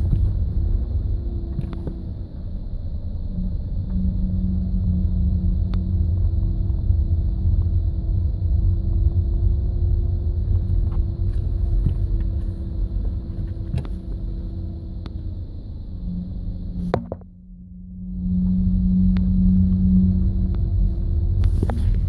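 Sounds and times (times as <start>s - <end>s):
low rumbling car growl: 0.0s - 22.0s.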